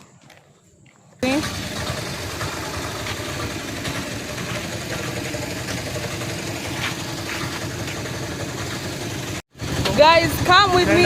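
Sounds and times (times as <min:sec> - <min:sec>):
auto-rickshaw engine idling: 0:01.2 - 0:11.0.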